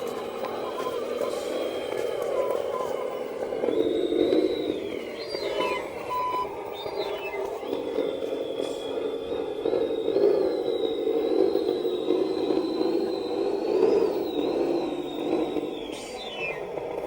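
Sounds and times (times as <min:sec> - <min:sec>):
steady rumbling noise: 0:00.0 - 0:17.0
toy truck motor whine: 0:00.0 - 0:17.0.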